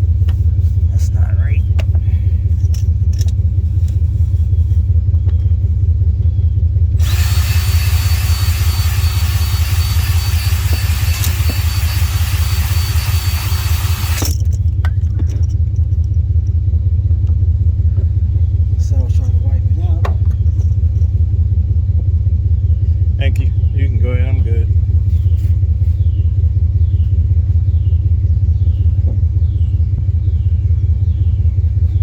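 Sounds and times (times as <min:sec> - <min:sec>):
low rumble: 0:00.0 - 0:32.0.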